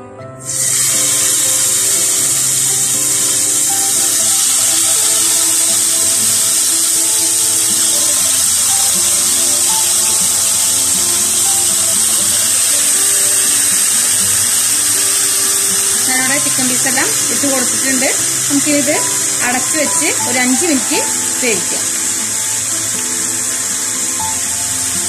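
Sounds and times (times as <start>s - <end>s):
chicken sizzling in hot oil: 0.4s - 25.0s.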